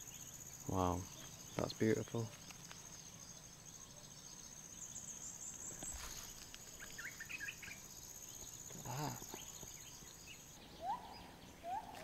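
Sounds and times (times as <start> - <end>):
bird chirps: 0.0 - 12.0
insects trilling: 0.0 - 12.0.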